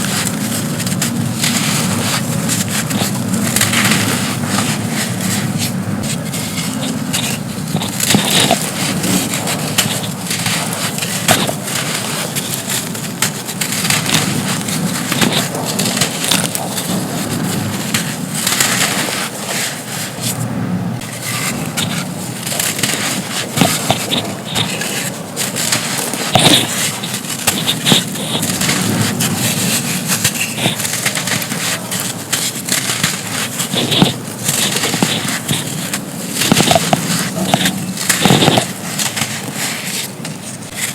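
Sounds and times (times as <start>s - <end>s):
sand chunks crunching: 0.0s - 20.4s, 21.0s - 40.9s.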